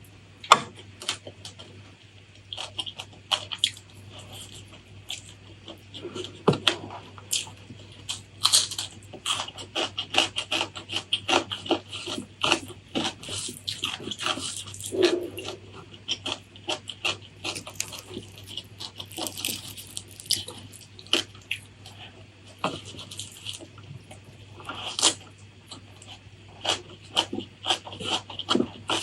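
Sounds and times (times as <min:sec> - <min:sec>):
crunchy chewing: 0:01.0 - 0:29.0.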